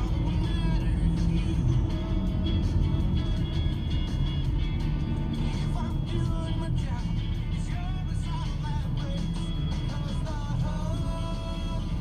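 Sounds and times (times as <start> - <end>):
engine and road rumble: 0.0 - 12.0
music in car cabin: 0.0 - 12.0.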